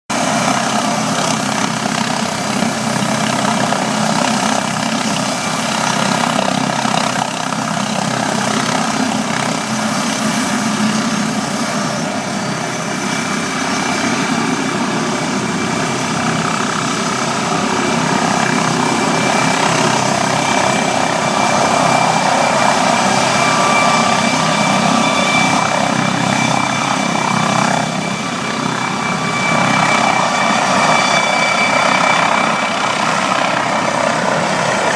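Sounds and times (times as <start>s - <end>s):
helicopter rotor and turbine: 0.1s - 34.9s.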